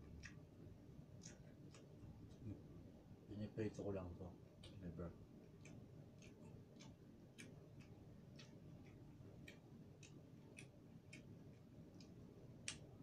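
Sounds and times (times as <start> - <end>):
faint light ticking: 0.0 - 2.6, 4.5 - 13.0.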